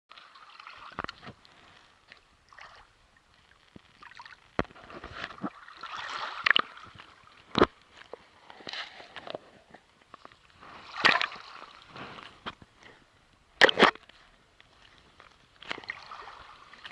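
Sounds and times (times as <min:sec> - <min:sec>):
water sloshing and splashing: 0:00.1 - 0:16.9.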